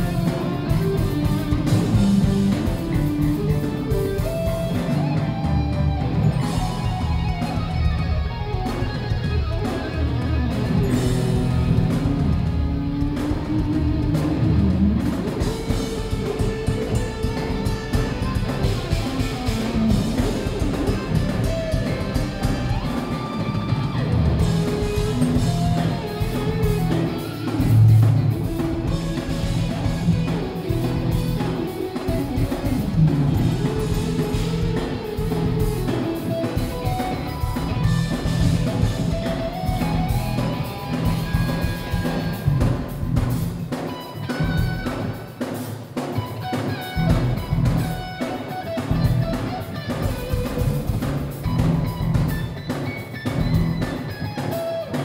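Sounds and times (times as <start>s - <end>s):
bass guitar: 0.0s - 45.4s, 46.0s - 55.0s
drum kit: 0.0s - 55.0s
electric guitar lead: 0.0s - 55.0s.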